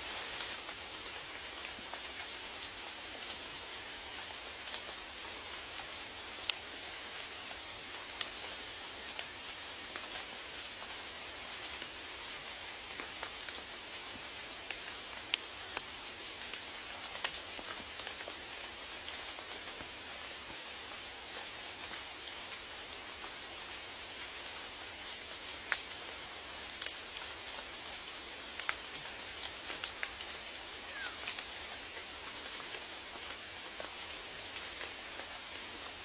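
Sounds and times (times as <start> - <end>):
raindrops ticking on a surface: 0.0 - 36.0
steady rain hiss: 0.0 - 36.0.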